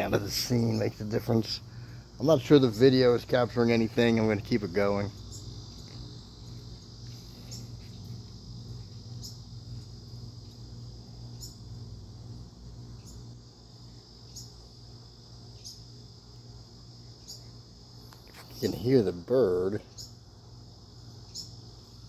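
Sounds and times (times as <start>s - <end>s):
insect trill: 0.0s - 22.0s
low steady hum: 0.0s - 22.0s.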